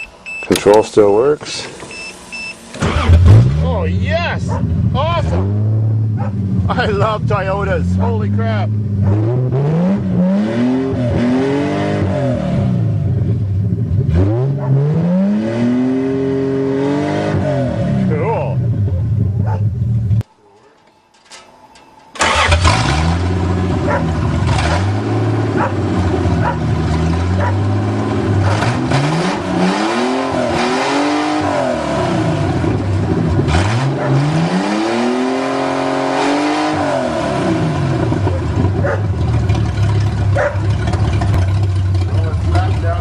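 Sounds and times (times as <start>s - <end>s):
car engine idling and revving: 1.6s - 20.3s, 22.2s - 43.0s.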